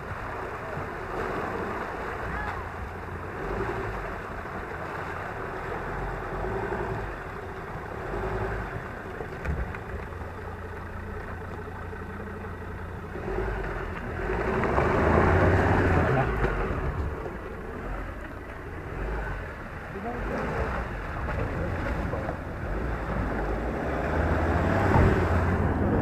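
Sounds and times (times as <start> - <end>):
diesel engine at low revs: 0.0 - 26.0.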